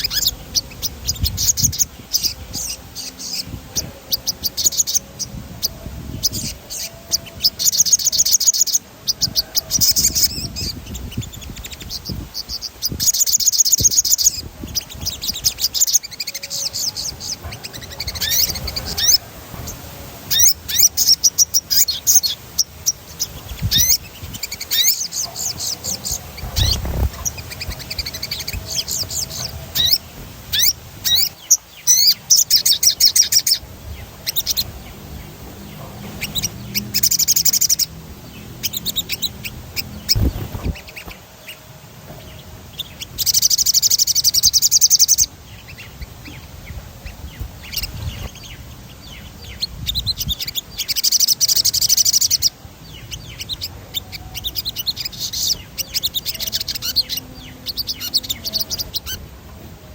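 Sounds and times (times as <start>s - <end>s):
songbird trilling and chirping: 0.0s - 59.7s.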